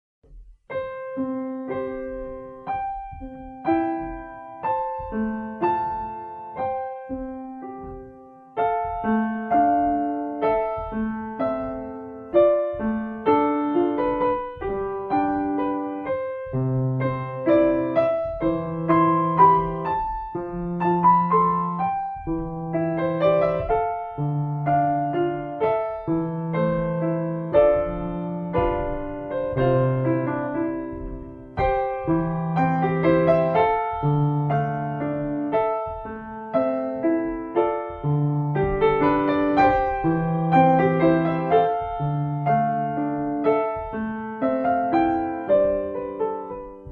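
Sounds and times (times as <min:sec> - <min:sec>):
piano piece: 0:00.2 - 0:46.9.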